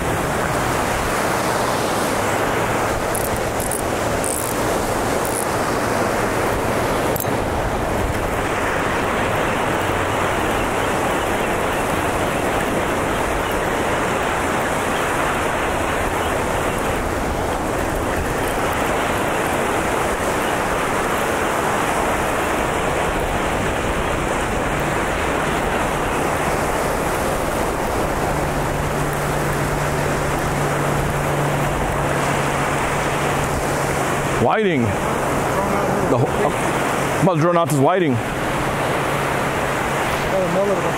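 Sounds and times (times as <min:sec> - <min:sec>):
surf breaking on a beach: 0:00.0 - 0:40.9.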